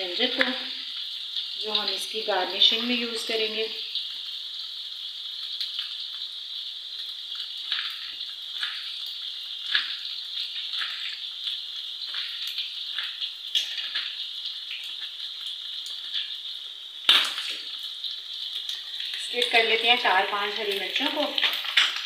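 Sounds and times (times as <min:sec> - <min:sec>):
beef sizzling in a pan: 0:00.0 - 0:22.0.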